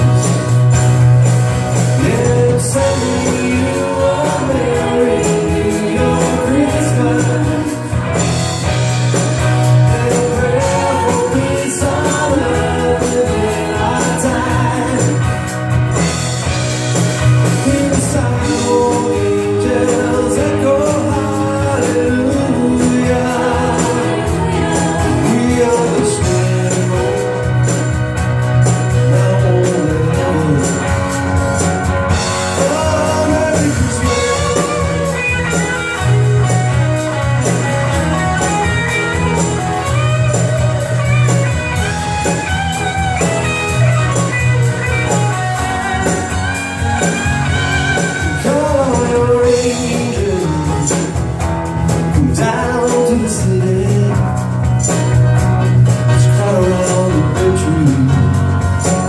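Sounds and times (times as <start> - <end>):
singers with live band: 0.0 - 59.0.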